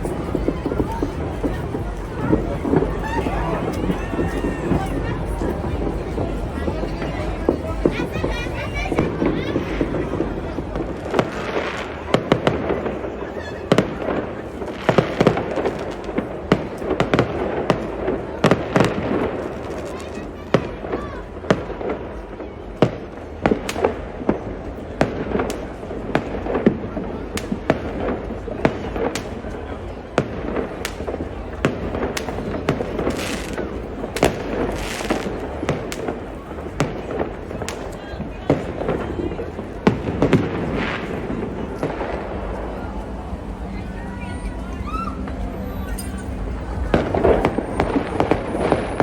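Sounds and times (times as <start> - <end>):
fireworks bangs and cracks: 0.0 - 49.0
steady background noise: 0.0 - 49.0.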